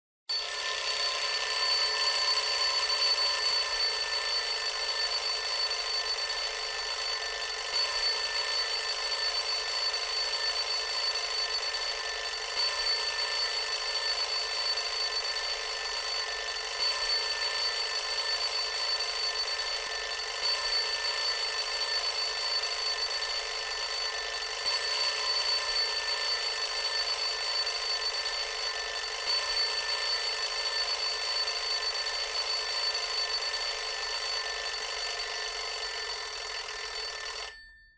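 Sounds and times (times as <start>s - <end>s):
bell alarm clock ringing: 0.3s - 37.9s.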